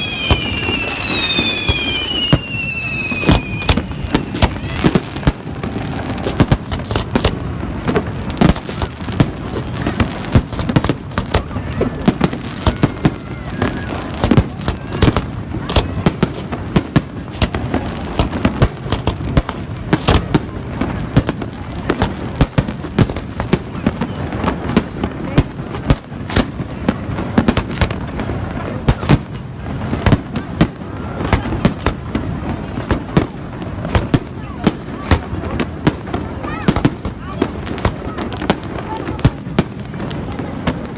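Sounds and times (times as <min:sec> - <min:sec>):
faint crowd voices: 0:00.0 - 0:40.9
fireworks bangs: 0:00.0 - 0:40.9
fireworks rumble: 0:00.0 - 0:40.9.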